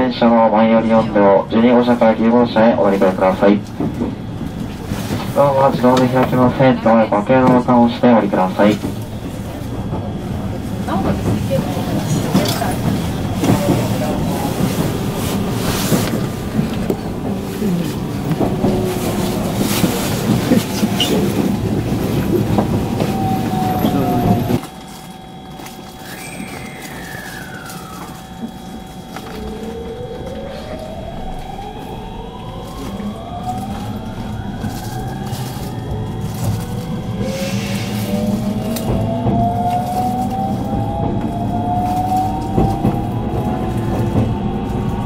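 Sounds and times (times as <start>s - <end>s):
traction motor whine: 0.0s - 45.0s
train running rumble: 0.0s - 45.0s
wheel clatter: 2.5s - 45.0s.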